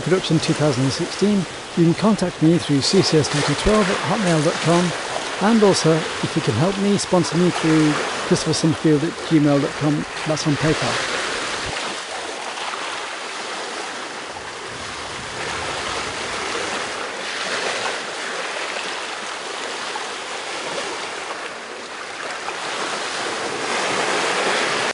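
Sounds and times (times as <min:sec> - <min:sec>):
sea waves rushing: 0:00.0 - 0:24.9.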